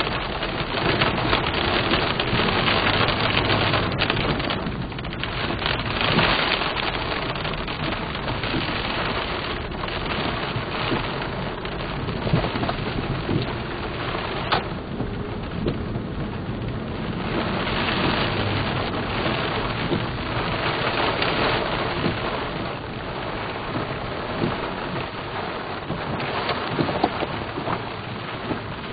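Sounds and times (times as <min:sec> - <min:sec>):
rain pelting vehicle roof: 0:00.0 - 0:28.9.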